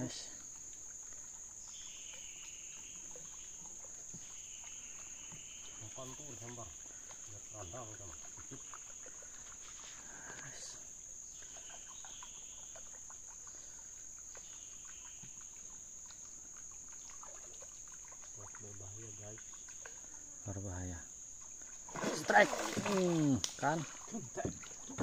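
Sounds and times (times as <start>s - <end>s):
forest insects droning: 0.0s - 25.0s
insect chirping: 0.0s - 25.0s.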